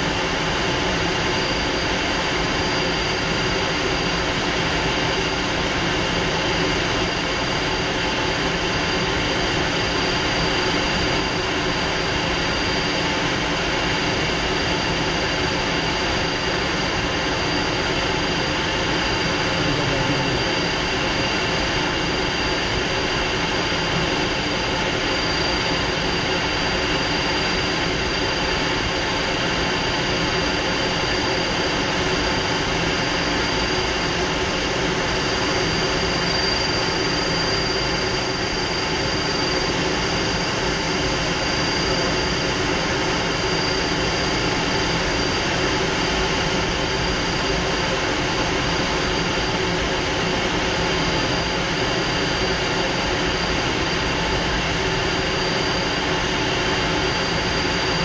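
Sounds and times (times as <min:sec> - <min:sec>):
high engine whine: 0:00.0 - 0:58.0
jet engine and airflow noise: 0:00.0 - 0:58.0.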